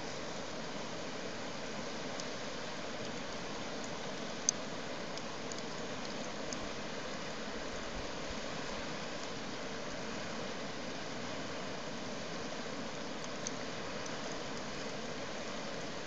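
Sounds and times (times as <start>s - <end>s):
campfire hissing: 0.0s - 16.0s
fire crackles and pops: 1.8s - 10.8s, 12.0s - 16.0s.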